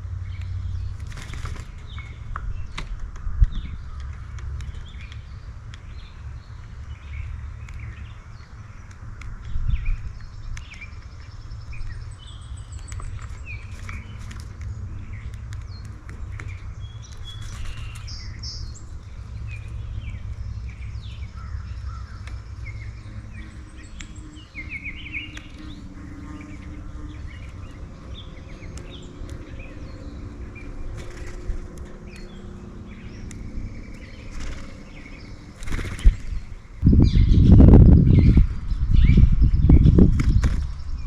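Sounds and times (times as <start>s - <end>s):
birds chirping and calling: 0.0s - 41.0s
steady low rumble: 0.0s - 41.0s.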